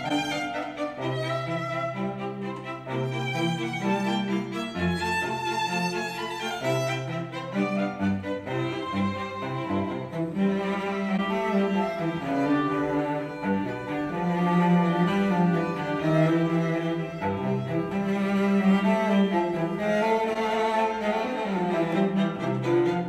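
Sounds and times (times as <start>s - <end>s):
classical string music with cello: 0.0s - 23.0s.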